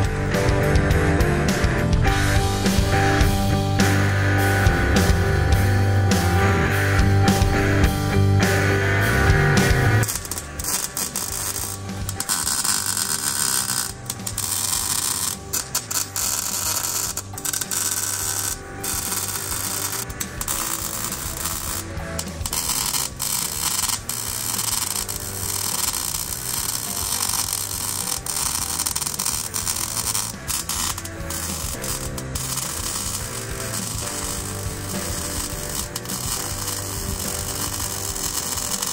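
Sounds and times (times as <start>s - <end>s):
welder arc crackling and sizzling: 0.0s - 38.9s.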